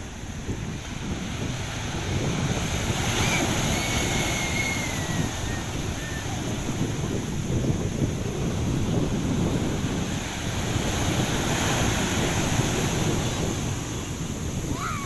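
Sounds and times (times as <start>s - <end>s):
surf washing on a beach: 0.0s - 15.0s
wind buffeting the microphone: 0.0s - 15.0s.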